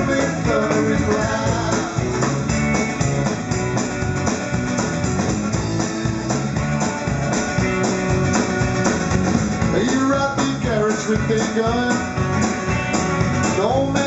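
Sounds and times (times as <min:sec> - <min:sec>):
drum kit beat: 0:00.0 - 0:14.0
guitars: 0:00.0 - 0:14.0
live band playing: 0:00.0 - 0:14.0.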